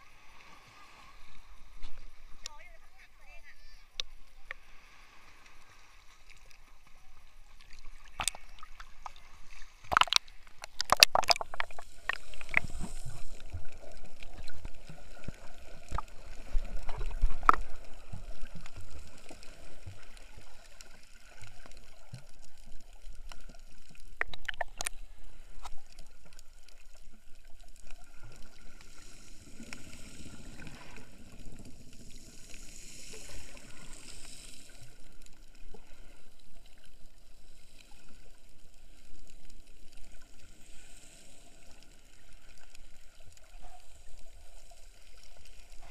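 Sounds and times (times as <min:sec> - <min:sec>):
underwater gurgling: 0:00.0 - 0:45.9
sea water sloshing and splashing: 0:03.8 - 0:45.9.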